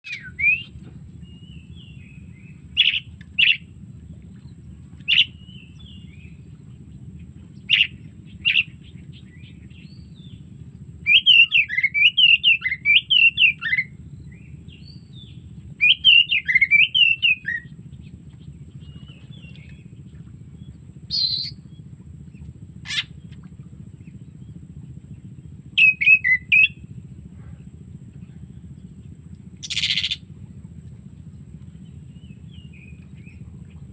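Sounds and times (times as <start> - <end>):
bird singing: 0.0 - 27.1, 28.1 - 33.9
steady low hum: 0.0 - 33.9.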